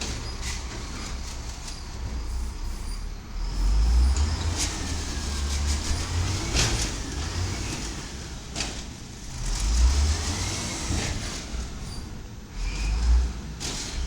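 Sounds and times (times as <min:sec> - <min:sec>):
garbage truck engine rumble: 0:00.0 - 0:14.0.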